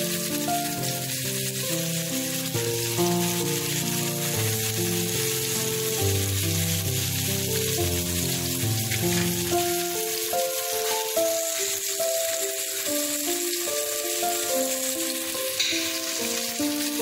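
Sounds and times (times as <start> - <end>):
background music: 0.0 - 17.0
chicken sizzling in a pan: 0.0 - 17.0.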